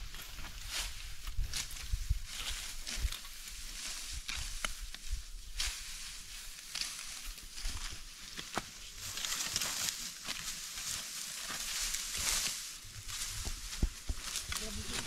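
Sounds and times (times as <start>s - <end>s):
dry wheat stalks rustling: 0.0s - 15.0s
footsteps on dry stubble: 0.0s - 15.0s.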